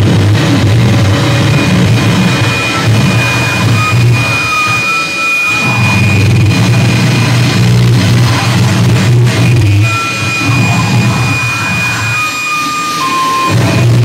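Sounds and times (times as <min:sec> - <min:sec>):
distorted electric guitar drone: 0:00.0 - 0:14.0.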